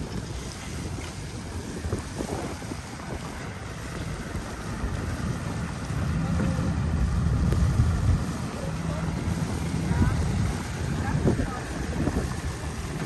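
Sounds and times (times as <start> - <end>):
street noise: 0.0 - 13.0
wind buffeting microphone: 0.0 - 13.0.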